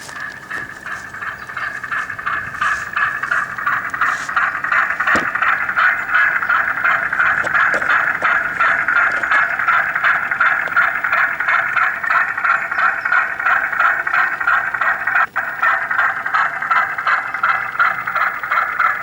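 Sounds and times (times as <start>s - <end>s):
model boat motor buzzing: 0.0s - 19.0s.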